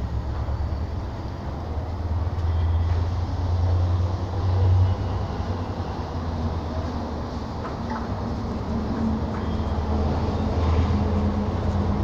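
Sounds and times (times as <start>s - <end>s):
freight wagons rumbling on rails: 0.0s - 12.0s.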